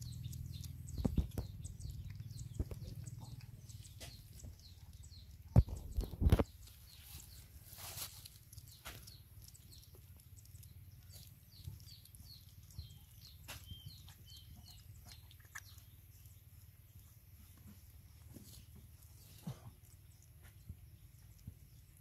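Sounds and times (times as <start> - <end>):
small bird chirping: 0.0 - 22.0.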